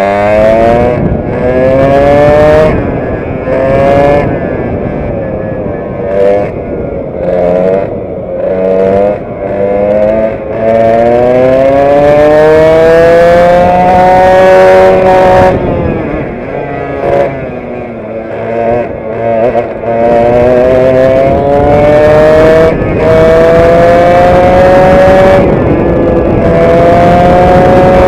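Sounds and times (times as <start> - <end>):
kart engine revving: 0.0 - 28.0.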